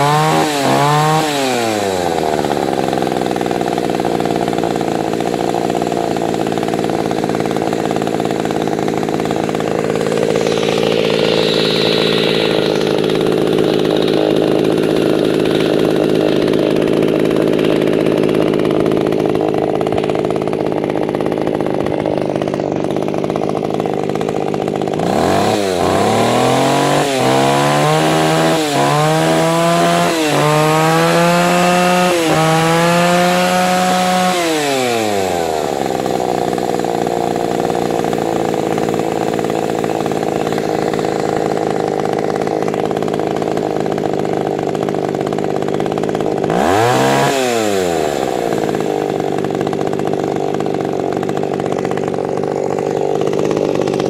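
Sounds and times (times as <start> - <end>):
chainsaw engine idling and revving: 0.0 - 54.0.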